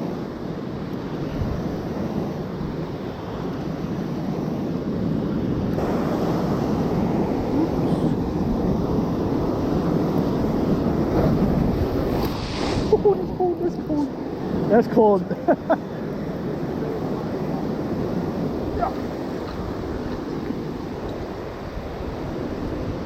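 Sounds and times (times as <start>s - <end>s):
heavy surf breaking: 0.0s - 23.0s
wind buffeting microphone: 0.0s - 23.0s.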